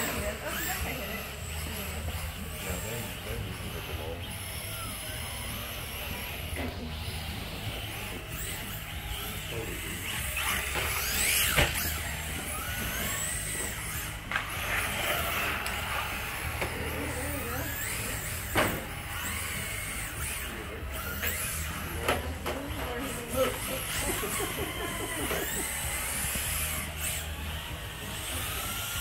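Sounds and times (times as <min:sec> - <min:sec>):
rc car motors whining: 0:00.0 - 0:29.0.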